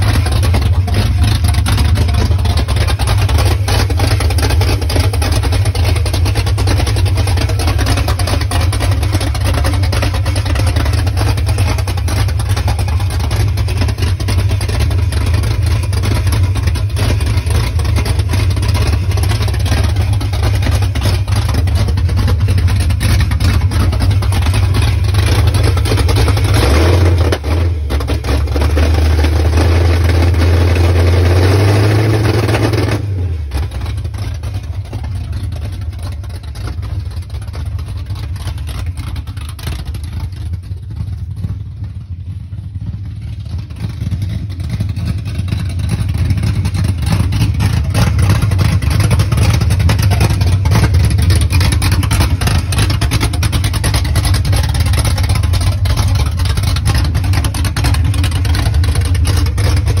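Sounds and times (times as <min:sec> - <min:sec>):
engine revving and idling: 0:00.0 - 1:00.0.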